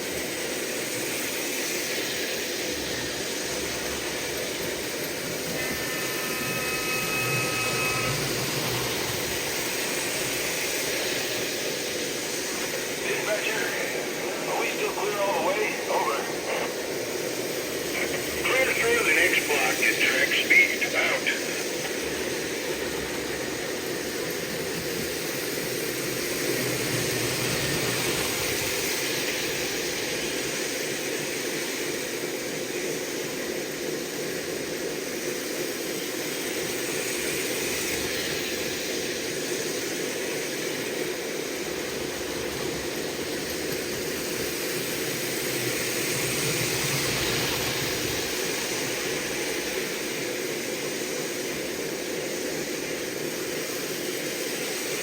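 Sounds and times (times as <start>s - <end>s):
train rolling: 0.0s - 55.0s.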